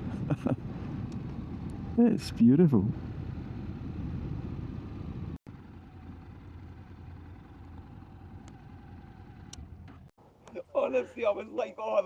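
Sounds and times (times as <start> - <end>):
motorcycle engine rumble: 0.0 - 10.5.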